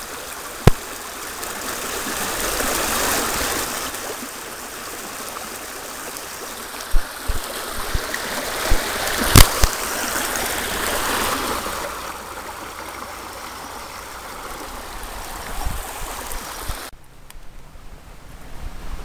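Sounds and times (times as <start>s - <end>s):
stream babbling over stones: 0.0s - 17.0s.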